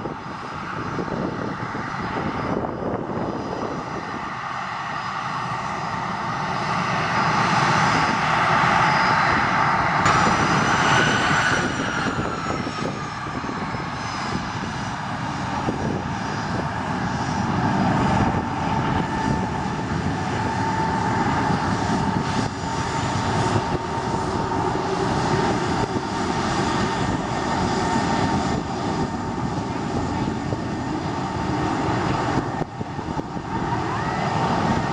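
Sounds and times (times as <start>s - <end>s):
jet engines hissing and whining: 0.0s - 34.9s.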